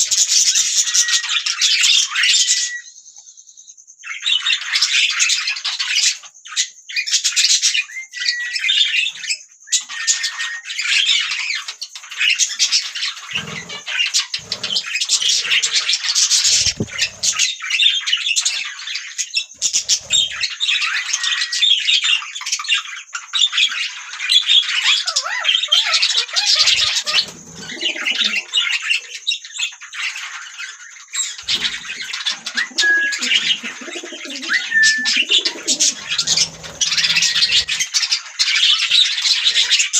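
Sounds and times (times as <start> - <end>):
budgies chattering and chirping: 0.0 - 2.8, 4.0 - 39.9.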